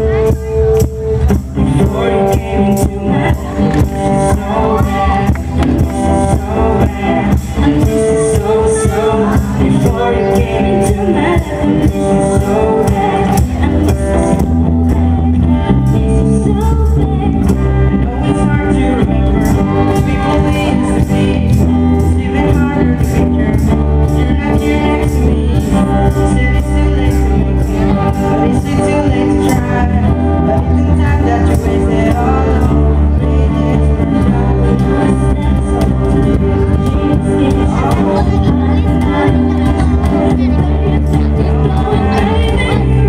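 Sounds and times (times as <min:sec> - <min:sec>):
acoustic band with singing: 0:00.0 - 0:43.0.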